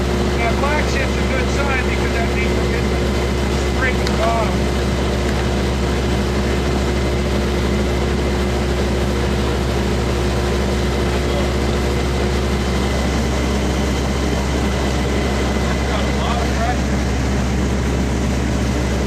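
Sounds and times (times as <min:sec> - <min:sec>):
heavy engine droning: 0:00.0 - 0:19.0.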